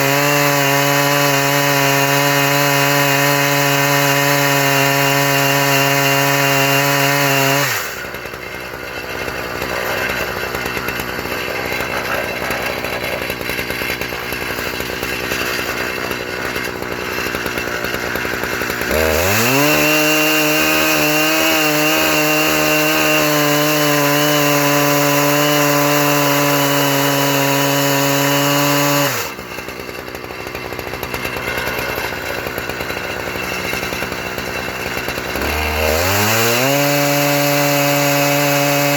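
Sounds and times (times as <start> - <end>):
chainsaw engine at high revs: 0.0 - 38.9.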